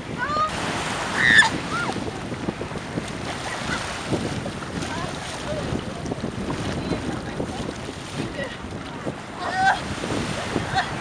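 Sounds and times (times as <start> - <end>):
small waves washing on beach: 0.0 - 11.0
wind buffeting microphone: 0.0 - 11.0.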